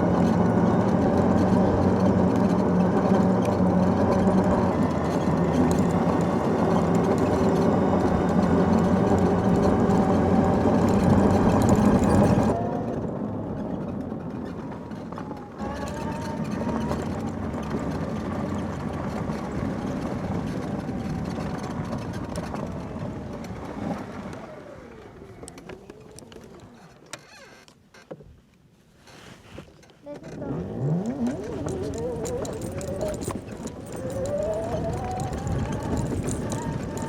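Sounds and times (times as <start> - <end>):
engine running steadily: 0.0 - 26.6, 30.1 - 37.0.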